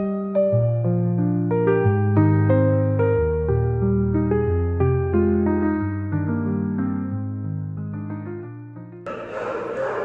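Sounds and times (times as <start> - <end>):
soft electric piano chords: 0.0 - 9.4.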